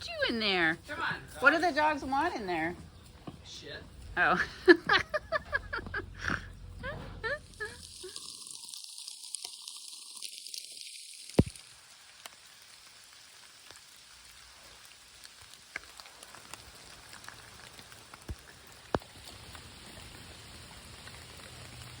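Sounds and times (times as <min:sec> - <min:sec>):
raindrops ticking close by: 0:00.0 - 0:22.0
steady rain hiss: 0:00.0 - 0:22.0.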